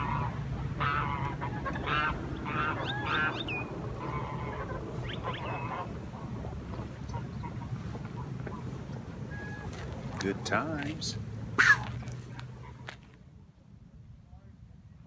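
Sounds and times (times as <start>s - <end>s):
geese honking: 0.0s - 10.9s, 11.5s - 13.0s
steady low rumble: 0.0s - 15.0s.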